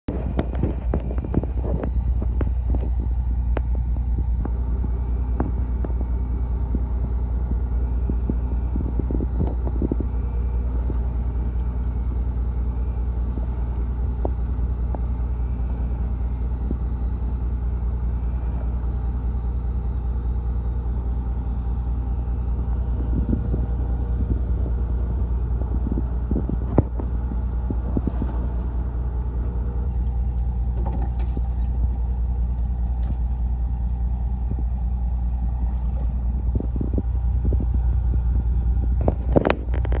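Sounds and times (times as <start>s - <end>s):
boat engine rumbling: 0.0s - 40.0s.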